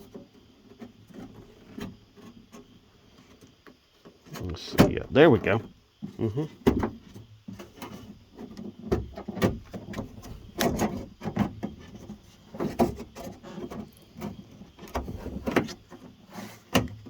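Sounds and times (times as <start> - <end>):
clicks knocks and scraping: 0.0 - 17.0.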